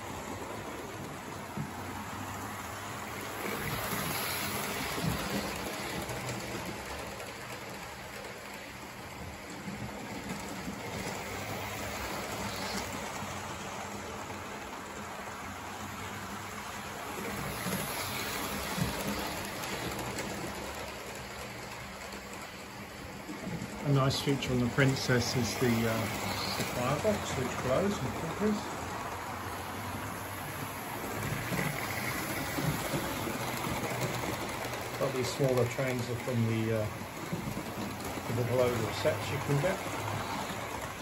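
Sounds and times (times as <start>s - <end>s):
model train motor hum: 0.0s - 41.0s
model train wheels on rails: 0.0s - 41.0s.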